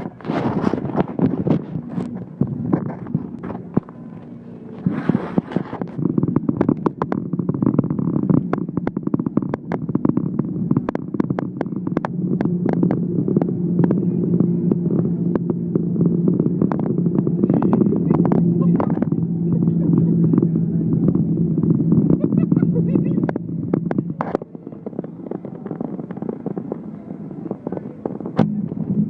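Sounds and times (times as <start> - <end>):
car engine and road hum: 0.0 - 29.0.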